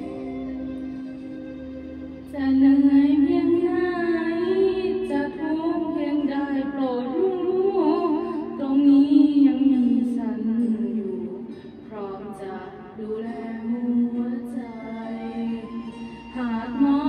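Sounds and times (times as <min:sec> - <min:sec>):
woman singing with vibrato: 0:00.0 - 0:00.8, 0:02.3 - 0:17.0.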